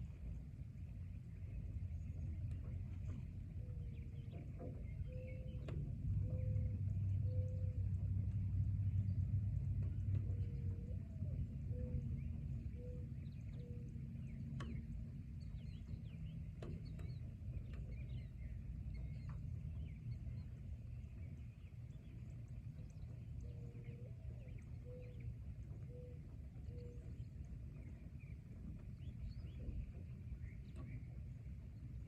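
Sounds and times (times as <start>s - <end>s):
low rumble: 0.0s - 32.0s
birds chirping: 0.3s - 32.0s.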